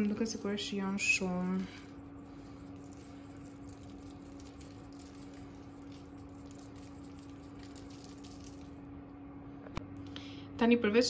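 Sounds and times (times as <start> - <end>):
seasoning granules pattering: 0.0 - 8.9
steady low hum: 0.0 - 11.0.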